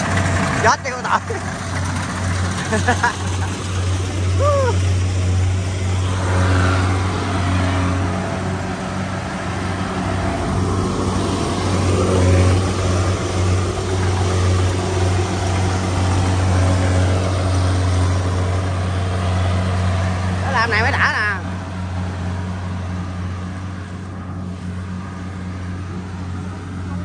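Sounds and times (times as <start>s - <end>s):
diesel engine drone: 0.0s - 27.0s
machine rushing noise: 0.0s - 27.0s.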